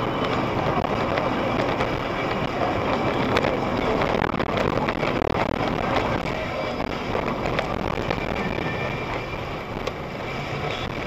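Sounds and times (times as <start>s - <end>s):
vehicle tyre and wind noise: 0.0s - 11.0s.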